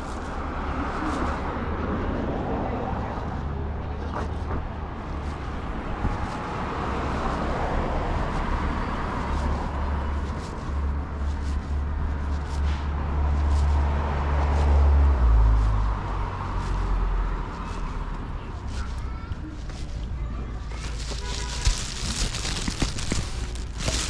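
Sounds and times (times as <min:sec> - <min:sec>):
vehicles driving past: 0:00.0 - 0:24.0.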